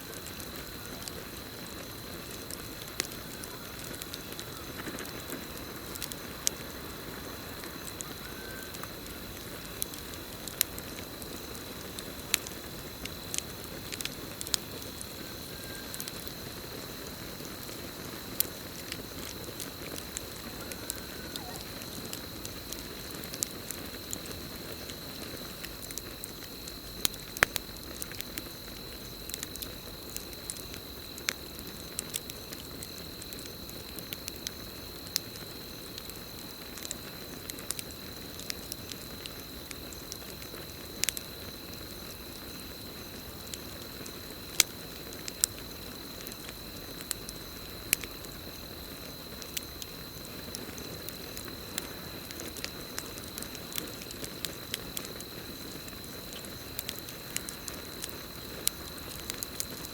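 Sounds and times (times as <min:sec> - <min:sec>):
campfire crackling and popping: 0:00.0 - 0:59.9
crickets trilling: 0:00.0 - 0:59.9.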